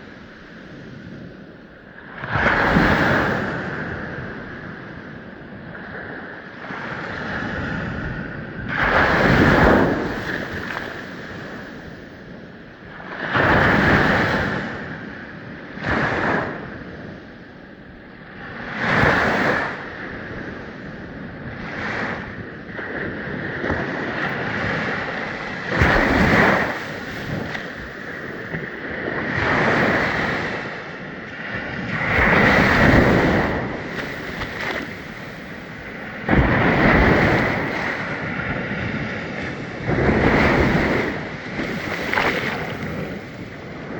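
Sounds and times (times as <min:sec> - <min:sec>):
ocean waves breaking on shore: 0:00.0 - 0:43.9.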